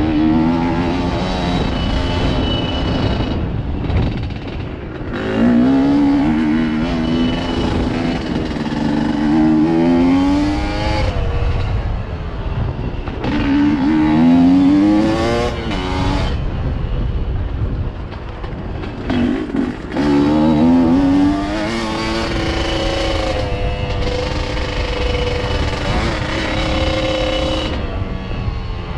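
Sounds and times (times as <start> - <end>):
dirt bike engine revving: 0.0 - 11.5, 13.2 - 16.5, 19.0 - 28.1
wind and trail rumble: 0.0 - 28.9.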